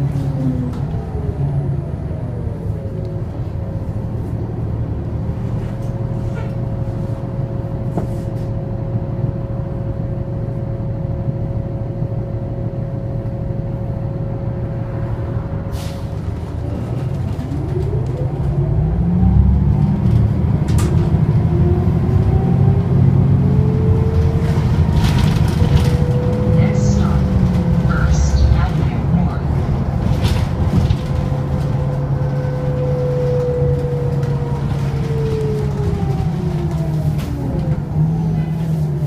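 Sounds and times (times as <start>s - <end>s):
bus drivetrain rumble and whine: 0.0s - 39.0s.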